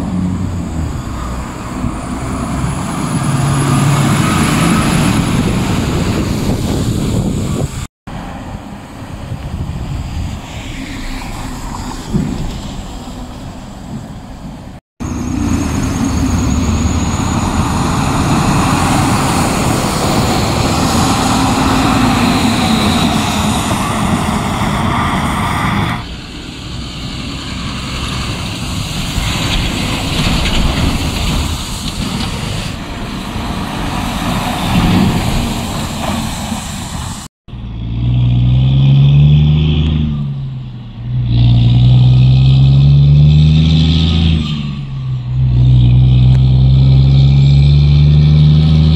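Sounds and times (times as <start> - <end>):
diesel truck engine accelerating: 0.0 - 48.9
trucks driving past on wet road: 0.0 - 48.9.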